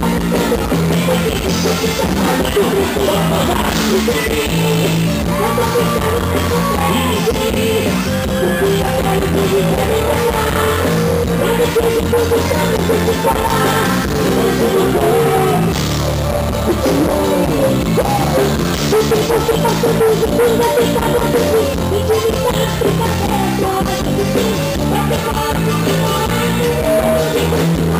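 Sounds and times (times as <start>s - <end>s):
bass: 0.0s - 27.9s
drum kit: 0.0s - 27.9s
melodic lead line with slides: 0.0s - 27.9s.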